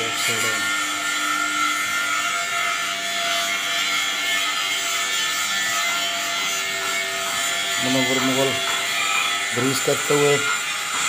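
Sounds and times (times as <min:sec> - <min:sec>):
power tool mechanical whine: 0:00.0 - 0:11.0.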